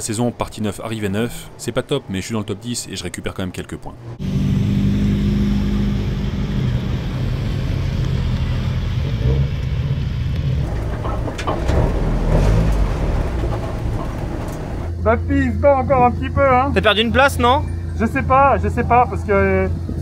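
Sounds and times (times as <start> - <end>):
car engine running: 3.9 - 20.0.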